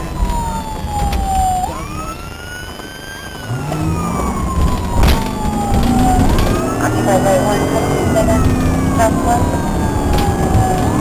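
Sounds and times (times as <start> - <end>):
car engine and tyre noise: 0.0 - 11.0
police siren wailing: 0.0 - 11.0.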